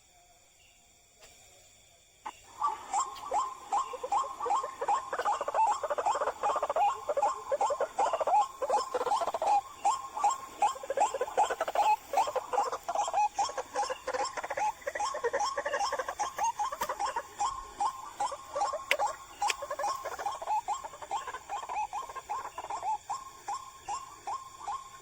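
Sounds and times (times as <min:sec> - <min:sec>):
waterhen croaking calls: 0:02.5 - 0:25.0.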